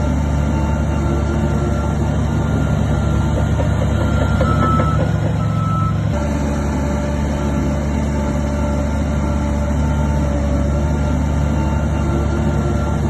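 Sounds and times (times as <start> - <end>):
diesel engine drone: 0.0 - 13.0
reversing alarm beeping: 0.0 - 13.0.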